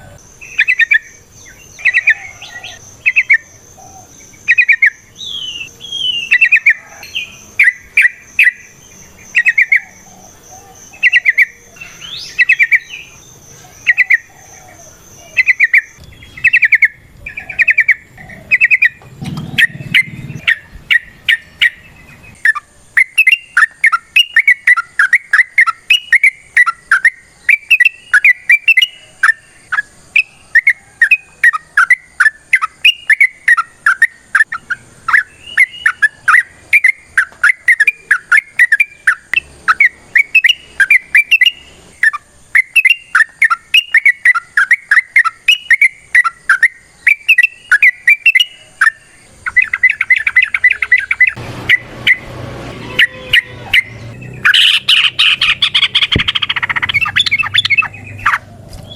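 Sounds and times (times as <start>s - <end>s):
bird singing bubbly phrases: 0.0s - 10.0s, 10.9s - 52.3s, 52.9s - 58.9s.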